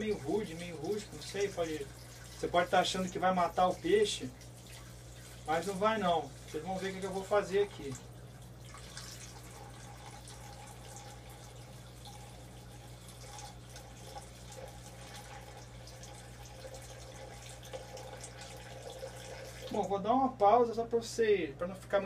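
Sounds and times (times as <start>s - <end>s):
water pouring into aquarium: 0.0s - 20.0s.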